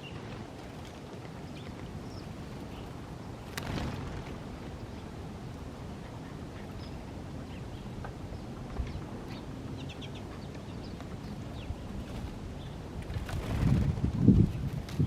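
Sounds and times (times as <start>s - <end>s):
small birds chirping: 0.0s - 14.8s
low background noise: 0.0s - 15.0s.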